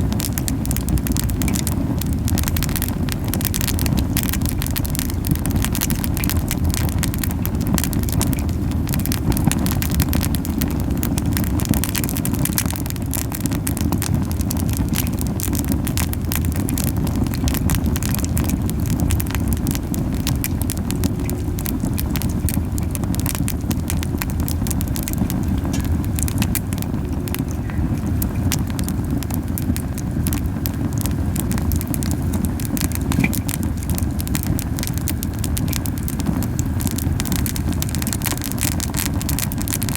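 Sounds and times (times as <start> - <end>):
campfire flames rumbling: 0.0 - 39.9
wood crackling and popping: 0.0 - 39.9.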